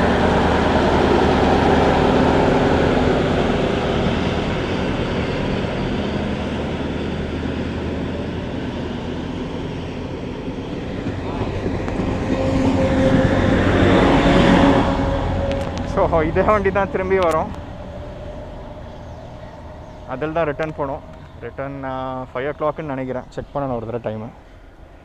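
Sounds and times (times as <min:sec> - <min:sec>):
train running: 0:00.0 - 0:25.0.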